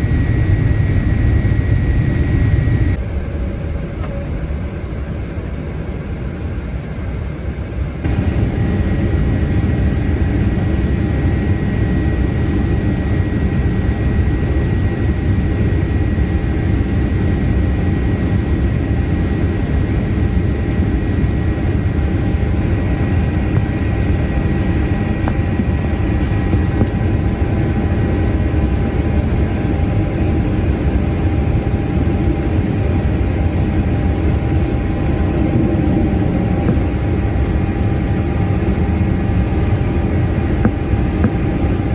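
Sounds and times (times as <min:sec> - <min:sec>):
jet cabin engine rumble: 0:00.0 - 0:41.9.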